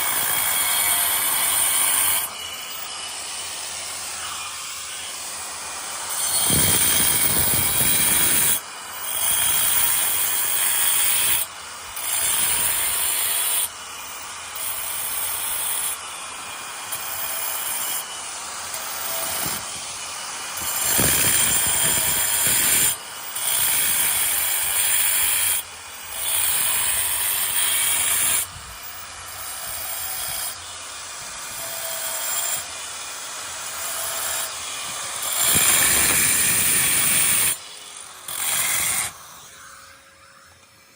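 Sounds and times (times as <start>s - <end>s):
power chipping hammer on tiles: 0.0s - 13.8s, 14.5s - 40.9s.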